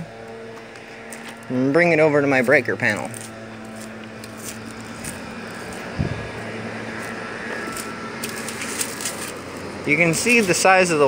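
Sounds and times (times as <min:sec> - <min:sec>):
steady low hum: 0:00.0 - 0:11.0
rustle of walking and carrying: 0:00.2 - 0:01.6, 0:02.2 - 0:11.0.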